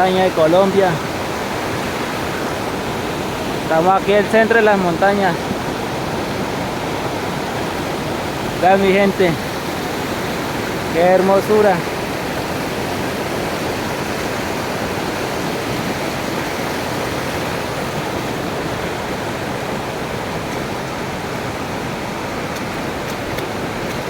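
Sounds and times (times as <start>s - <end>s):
rushing stream water: 0.0s - 24.0s
waterfall roaring: 0.0s - 24.0s.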